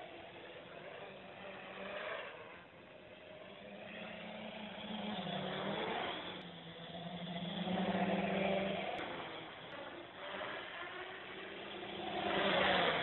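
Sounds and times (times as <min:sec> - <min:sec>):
quadcopter motors humming: 0:00.0 - 0:13.0.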